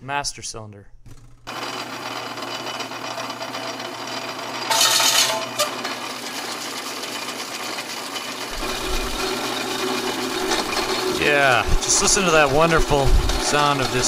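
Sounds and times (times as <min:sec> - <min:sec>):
lathe drilling metal whirring: 0:01.5 - 0:14.0.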